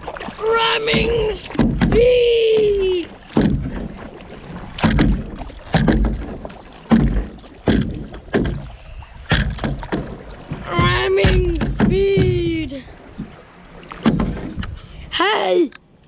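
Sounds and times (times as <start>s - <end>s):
hull and paddle knocking: 0.0s - 14.9s
paddle strokes splashing water: 0.0s - 15.2s
water rushing: 0.0s - 15.8s.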